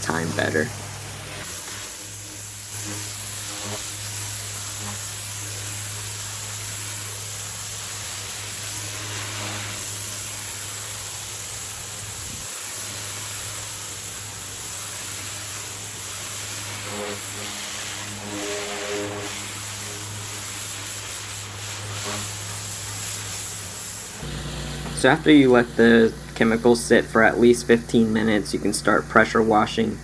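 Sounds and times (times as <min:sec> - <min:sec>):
pressure washer spraying water: 0:00.0 - 0:30.0.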